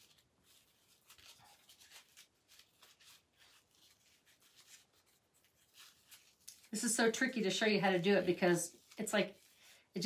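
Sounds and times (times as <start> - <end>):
fabric ribbon rustling: 0.0 - 10.0.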